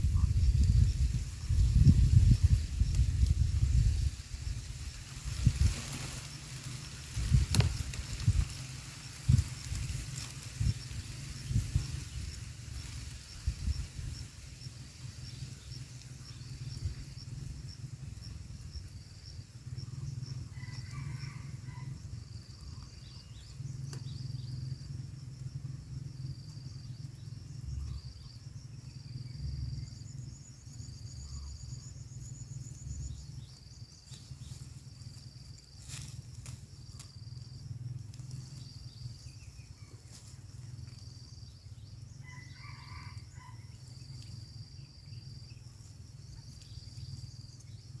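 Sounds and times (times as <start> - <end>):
higher insect trill: 0.0 - 48.0
insects chirping pulsing rhythm: 0.0 - 48.0.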